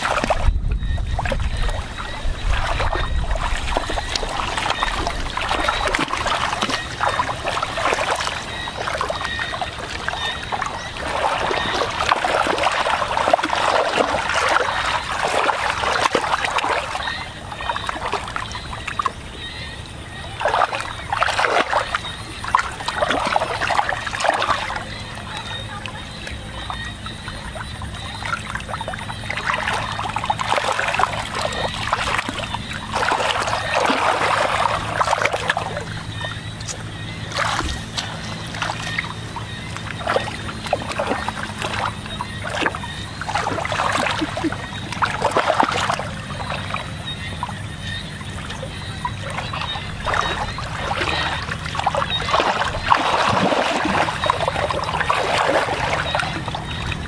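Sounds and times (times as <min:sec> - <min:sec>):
steady low hum: 0:00.0 - 0:57.0
hands splashing in muddy water: 0:01.2 - 0:19.1, 0:28.2 - 0:47.4, 0:48.3 - 0:57.0.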